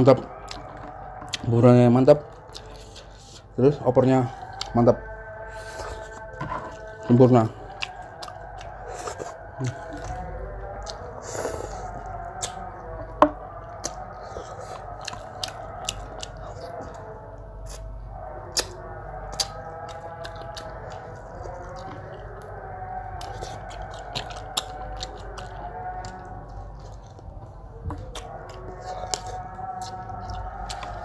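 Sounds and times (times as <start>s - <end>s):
chewing: 0.0s - 31.0s.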